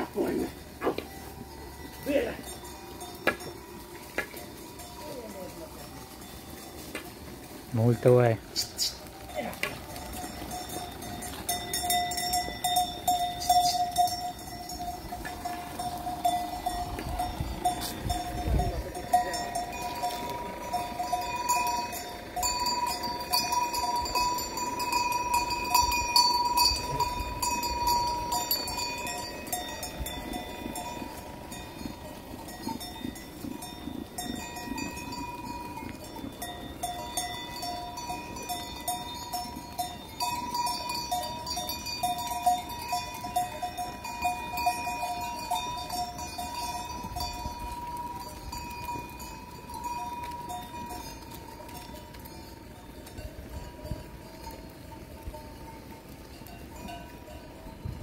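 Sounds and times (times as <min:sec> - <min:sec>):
sheep bells clanking: 0:00.0 - 0:58.0.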